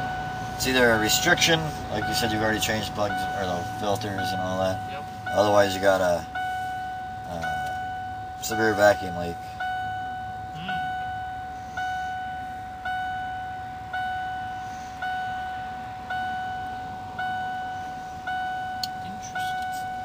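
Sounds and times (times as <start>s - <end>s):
door-open warning chime dinging: 0.0s - 20.0s.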